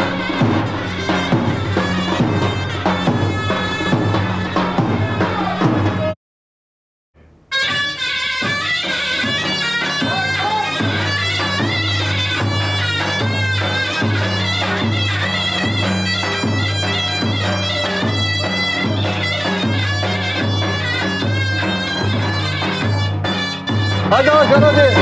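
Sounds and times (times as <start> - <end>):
shawm playing lively dance tune: 0.0 - 6.2, 7.3 - 25.0.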